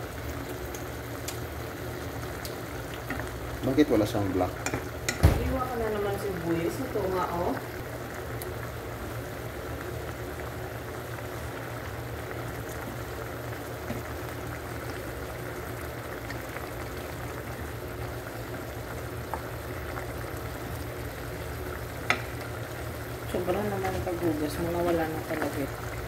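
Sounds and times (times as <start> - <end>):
sauce bubbling in a pan: 0.0 - 26.0.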